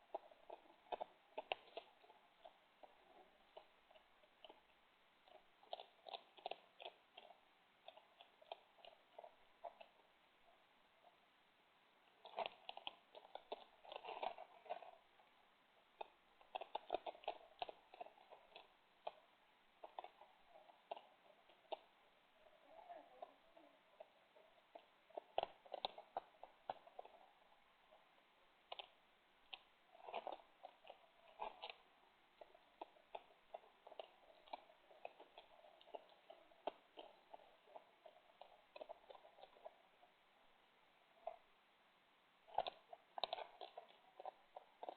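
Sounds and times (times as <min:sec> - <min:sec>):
animals chewing and crunching food: 0:00.0 - 0:44.9.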